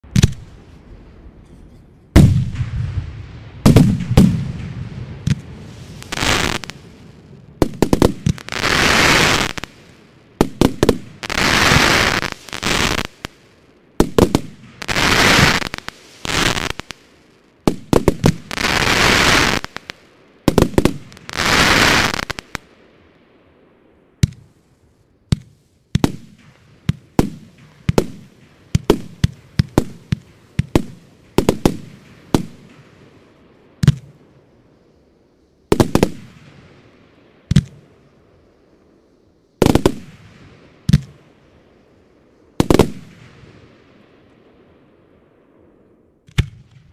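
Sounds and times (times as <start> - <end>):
fireworks bursts with crackle: 0.0 - 1.0, 2.1 - 22.8, 24.2 - 34.7, 35.7 - 38.2, 39.6 - 44.9
fireworks bangs: 0.0 - 23.1, 25.3 - 34.5, 35.7 - 38.2, 39.6 - 46.9.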